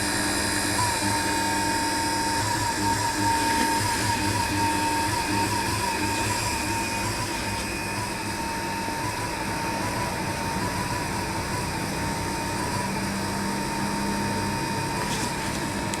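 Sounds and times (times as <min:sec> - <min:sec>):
electric mixer motor whine: 0:00.0 - 0:16.0.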